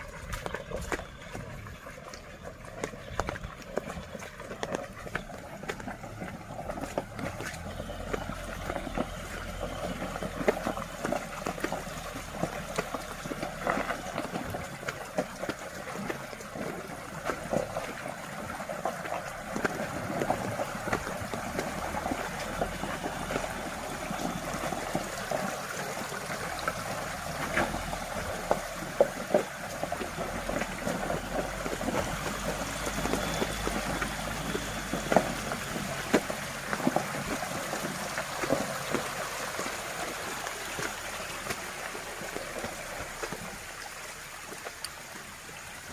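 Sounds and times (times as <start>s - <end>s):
pickup engine hum: 0.0s - 45.9s
water and mud splashing: 0.0s - 45.9s.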